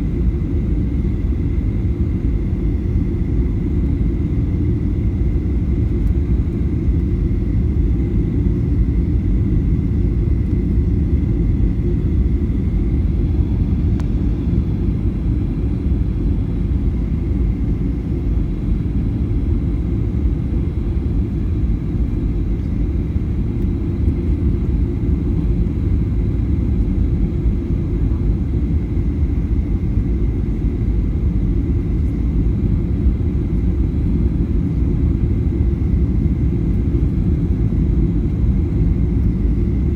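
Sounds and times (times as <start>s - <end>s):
airliner cabin rumble: 0.1s - 39.9s.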